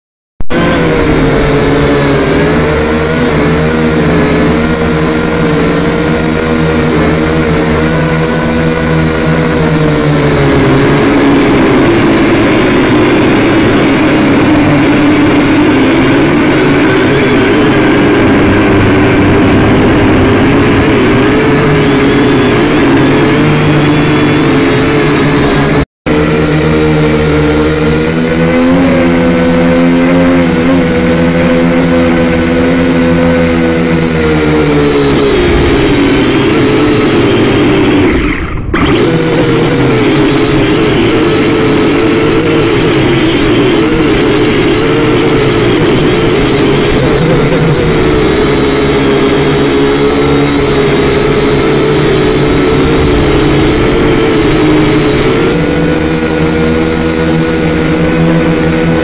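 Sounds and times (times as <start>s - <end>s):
crane engine running: 0.4s - 59.0s.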